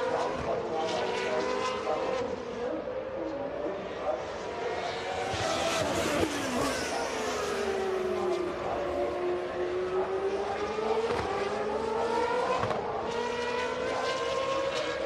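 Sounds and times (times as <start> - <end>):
race car engine: 0.0 - 15.0.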